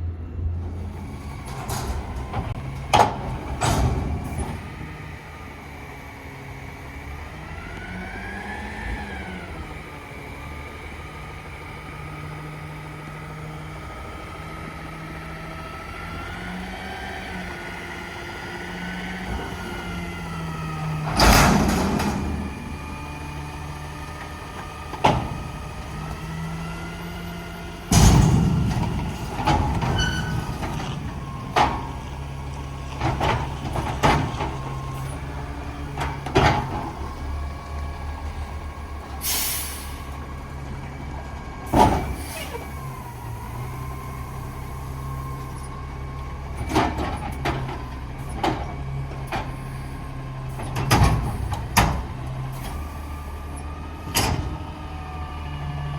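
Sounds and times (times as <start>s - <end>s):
garbage truck diesel engine: 0.0s - 55.9s.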